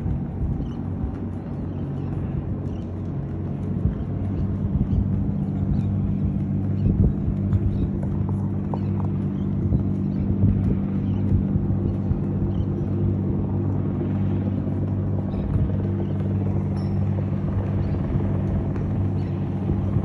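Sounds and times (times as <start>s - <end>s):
ship machinery hum: 0.0s - 20.0s
uneven rumble: 0.0s - 20.0s.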